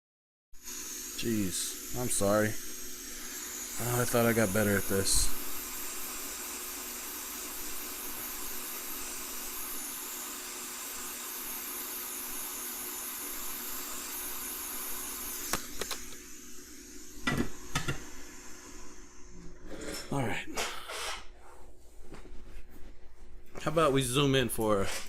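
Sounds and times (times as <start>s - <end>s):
hot air blower hissing: 0.6s - 21.4s.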